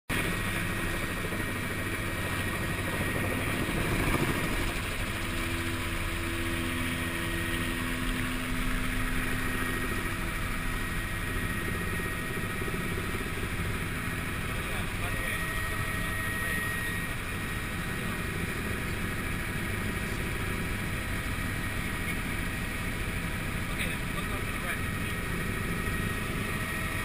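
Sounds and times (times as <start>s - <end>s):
helicopter engine and rotor: 0.1s - 27.0s.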